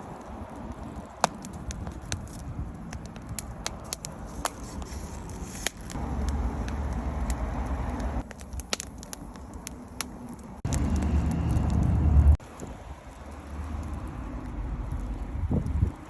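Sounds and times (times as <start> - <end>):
burning wood popping: 0.0 - 16.0
wind buffeting microphone: 0.0 - 16.0
wood fire crackling: 0.0 - 16.0.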